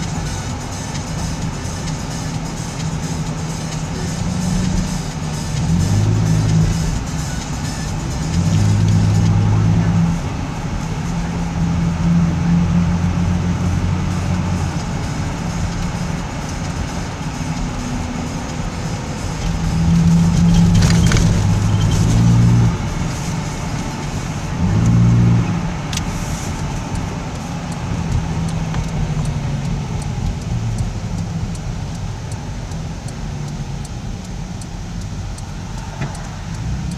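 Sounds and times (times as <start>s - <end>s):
engine and road rumble: 0.0s - 36.9s
louder low drone: 0.0s - 36.9s
turn signal ticking: 0.0s - 36.9s.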